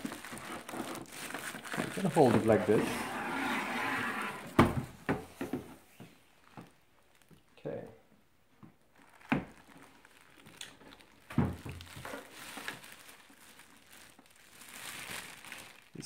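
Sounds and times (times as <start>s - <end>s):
packaging crinkling and rustling: 0.0s - 5.0s, 6.1s - 7.5s, 8.8s - 16.0s.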